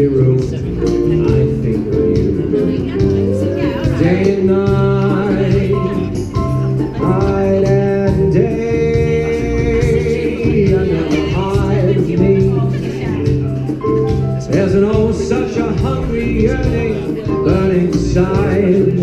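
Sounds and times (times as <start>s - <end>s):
guitar: 0.0s - 19.0s
man singing: 0.0s - 19.0s
steady beat: 0.0s - 19.0s.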